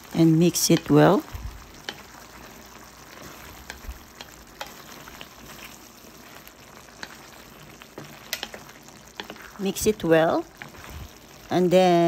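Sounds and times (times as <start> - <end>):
stew hissing in a pan: 0.0 - 12.0
spatula scraping a pan: 1.6 - 11.5.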